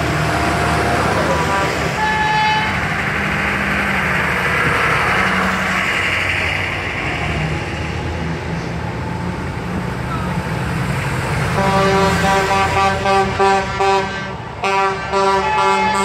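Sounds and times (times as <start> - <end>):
vehicle engines driving past: 0.0 - 16.0.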